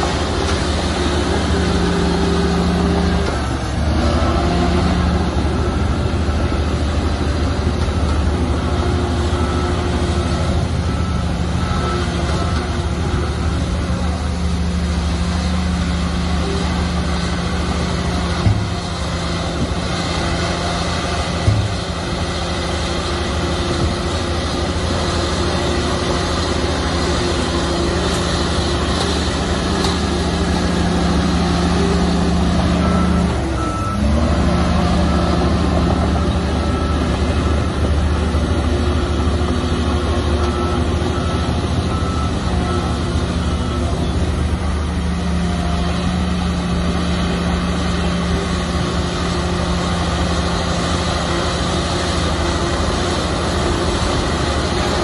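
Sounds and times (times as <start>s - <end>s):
bulldozer diesel engine running: 0.0s - 55.0s
reversing alarm beeping: 0.0s - 55.0s.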